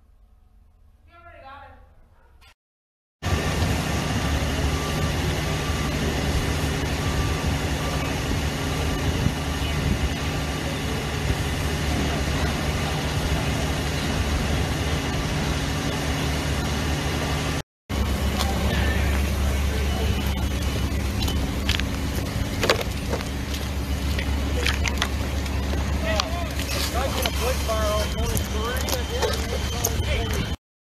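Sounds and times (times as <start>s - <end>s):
fire truck engine humming: 3.2s - 30.6s
loud low rumble: 3.2s - 30.6s.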